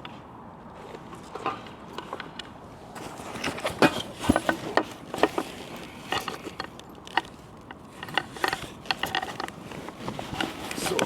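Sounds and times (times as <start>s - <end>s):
camping gear clicks and rattles: 0.0s - 11.0s.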